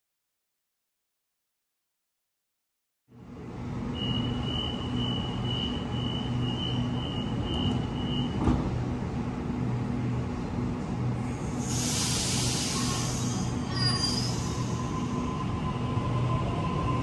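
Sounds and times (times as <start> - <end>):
train low hum: 3.1 - 17.0.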